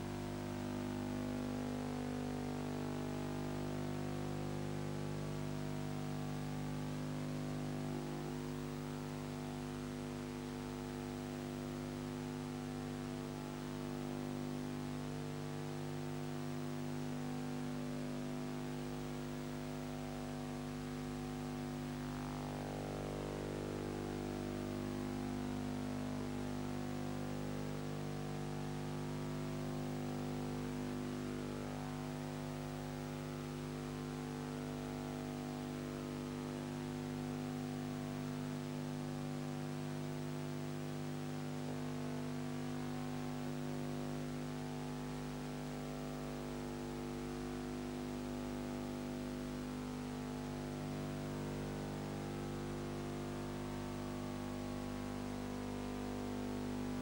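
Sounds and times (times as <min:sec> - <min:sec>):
hum of held tones: 0:00.0 - 0:57.0.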